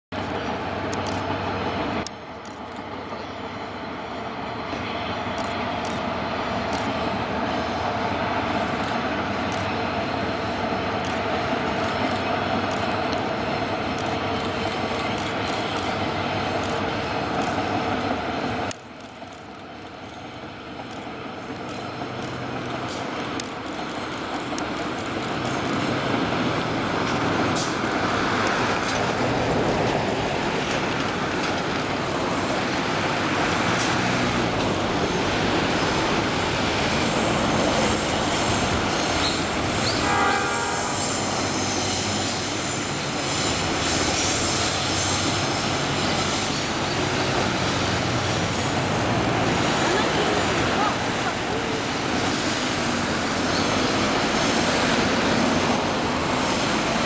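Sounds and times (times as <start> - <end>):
train engine and rolling rumble: 0.1 - 57.0.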